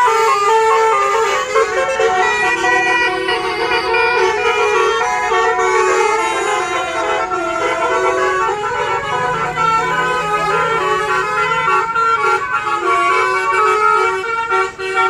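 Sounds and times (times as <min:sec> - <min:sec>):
musical air horn playing a tune: 0:00.0 - 0:15.0.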